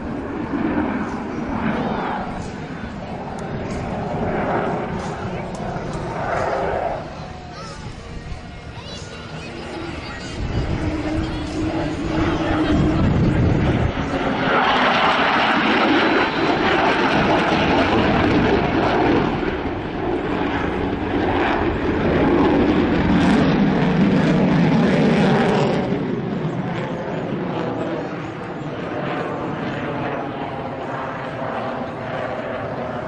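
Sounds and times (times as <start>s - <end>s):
fighter jet roar overhead: 0.0s - 33.0s.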